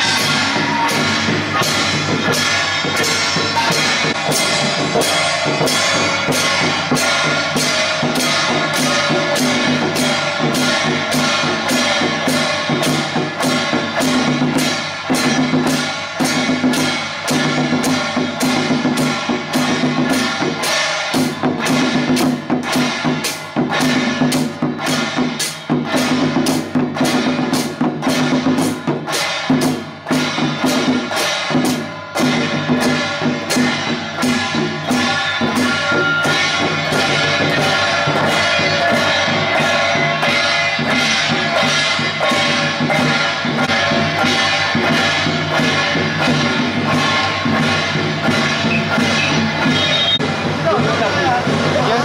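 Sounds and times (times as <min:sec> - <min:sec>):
barrel drum beating: 0:00.0 - 0:52.0
hand cymbals and gongs ringing: 0:00.0 - 0:52.0.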